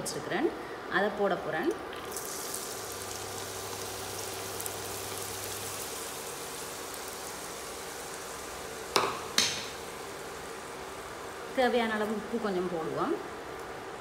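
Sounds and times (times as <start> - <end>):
onions sizzling in hot oil: 2.0 - 14.0.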